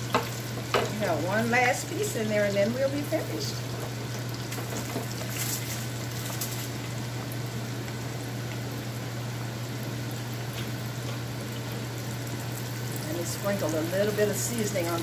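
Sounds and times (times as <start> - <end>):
oil bubbling in deep fryer: 0.0 - 15.0.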